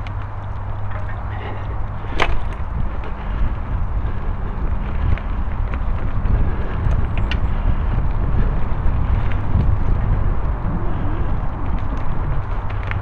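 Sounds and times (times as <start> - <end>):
bike tyres rolling over ground: 0.0 - 13.0
wind buffeting microphone: 0.0 - 13.0.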